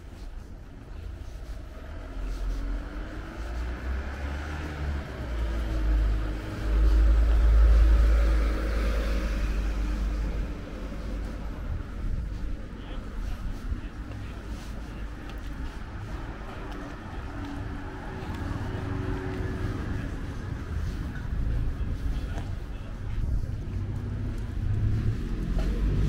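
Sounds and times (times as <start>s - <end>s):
car passing: 1.2s - 26.0s.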